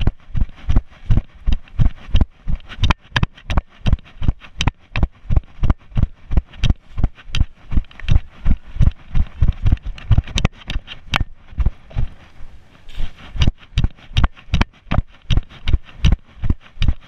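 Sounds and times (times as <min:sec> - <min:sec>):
running footsteps on grass: 0:00.0 - 0:17.0.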